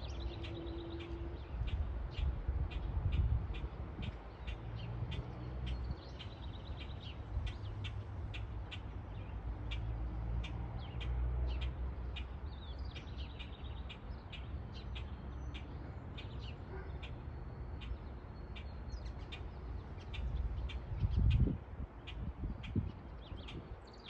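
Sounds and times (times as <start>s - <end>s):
songbird chirping: 0.0s - 3.2s, 4.0s - 24.0s.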